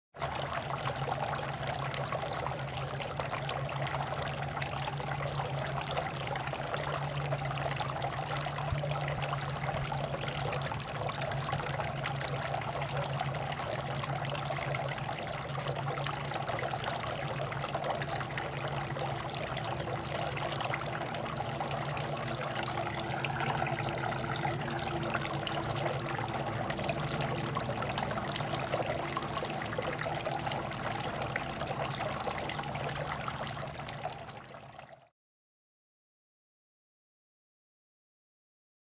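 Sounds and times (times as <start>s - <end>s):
low hum: 0.2s - 34.6s
fountain water trickling and pouring: 0.2s - 35.1s.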